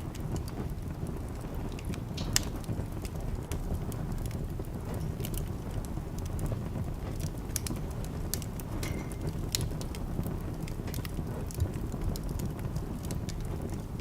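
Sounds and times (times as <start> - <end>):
fire rumbling: 0.0 - 14.0
wood fire crackling and popping: 0.0 - 14.0.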